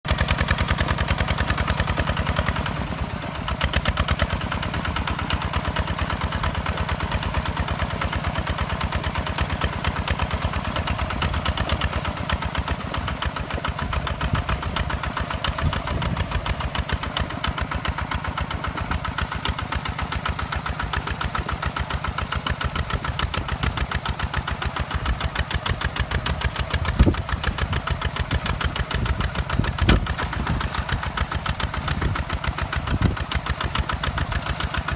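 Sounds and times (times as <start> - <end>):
tractor engine chugging: 0.0 - 34.9.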